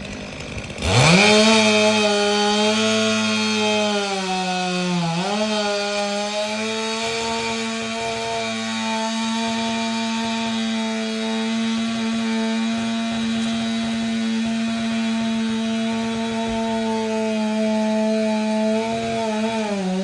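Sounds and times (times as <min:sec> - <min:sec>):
chainsaw cutting at full throttle: 0:00.0 - 0:20.0.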